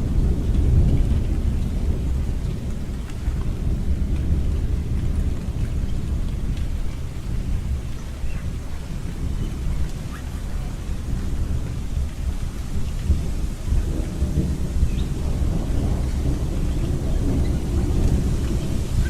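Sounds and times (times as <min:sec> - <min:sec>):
continuous rain: 0:00.0 - 0:19.0
faint drips: 0:00.0 - 0:19.0
thunder rumbling: 0:00.0 - 0:19.0.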